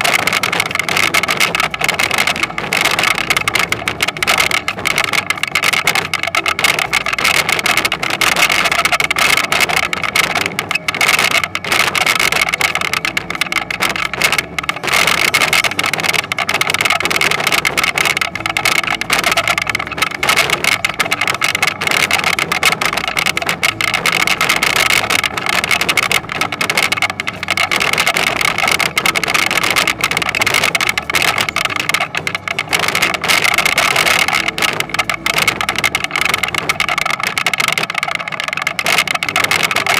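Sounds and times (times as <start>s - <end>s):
harvesting machine rattling: 0.0s - 39.9s.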